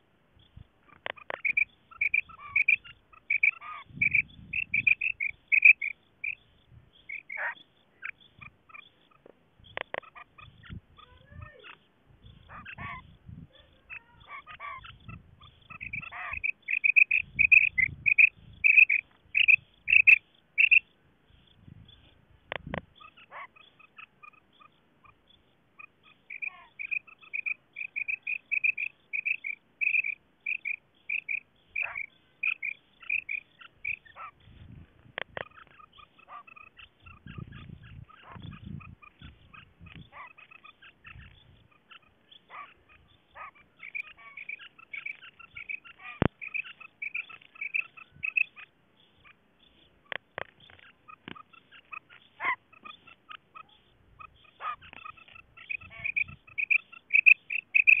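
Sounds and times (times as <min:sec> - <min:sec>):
quail calling: 0:00.5 - 0:58.0.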